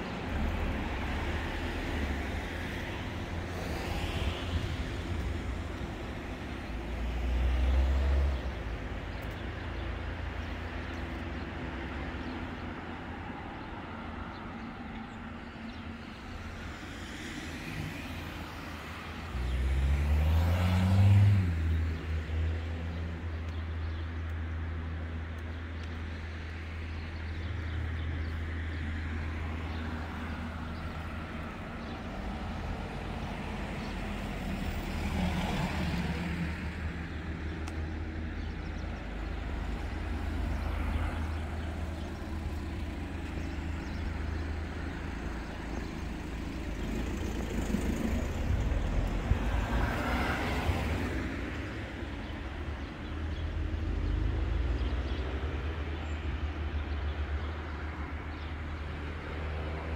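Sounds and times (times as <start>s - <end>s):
low traffic rumble: 0.0s - 59.9s
vehicles passing: 0.0s - 59.9s.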